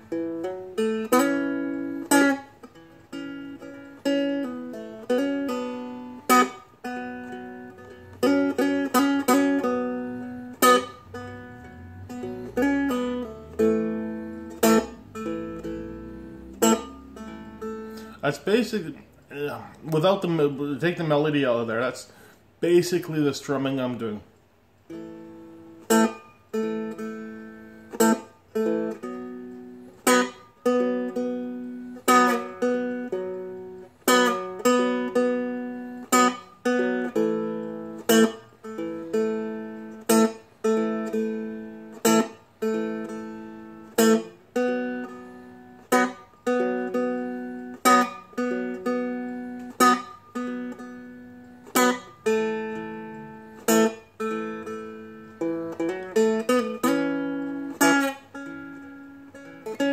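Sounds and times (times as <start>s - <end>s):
dulcimer strummed chords: 0.0s - 22.2s, 24.9s - 59.9s.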